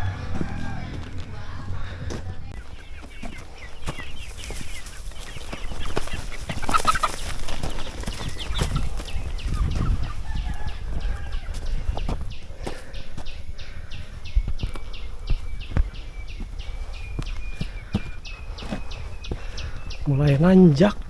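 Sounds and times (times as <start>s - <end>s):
chickens clucking: 0.0s - 21.0s
footsteps on a trail: 0.0s - 21.0s.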